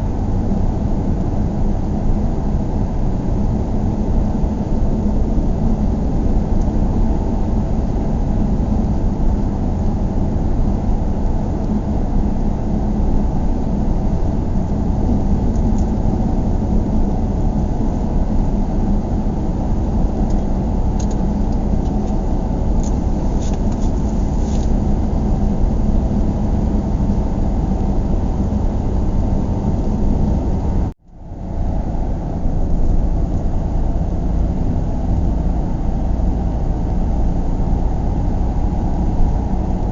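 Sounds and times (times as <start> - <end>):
car road and engine rumble: 0.0 - 39.9
constant low hum: 0.0 - 39.9.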